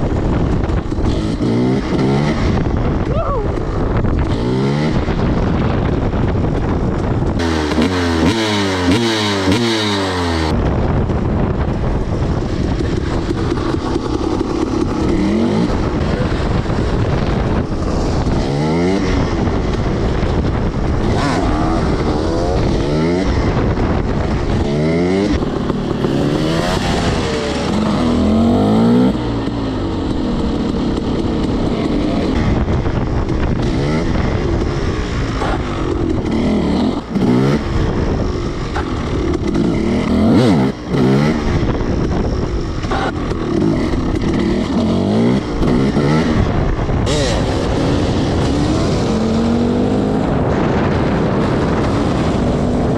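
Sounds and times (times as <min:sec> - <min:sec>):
dirt bike engine revving: 0:00.1 - 0:06.2, 0:07.0 - 0:10.6, 0:12.4 - 0:52.9.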